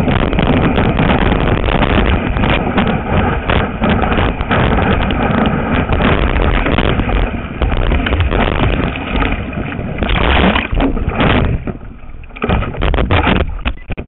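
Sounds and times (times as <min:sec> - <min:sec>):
surf water rushing and splashing: 0:00.0 - 0:14.0
wind buffeting microphone: 0:00.0 - 0:14.0.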